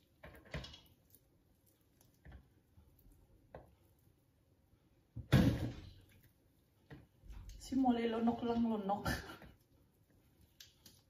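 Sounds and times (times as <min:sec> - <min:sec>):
soft squishes of chicken meat: 0:00.0 - 0:04.8, 0:06.0 - 0:11.0.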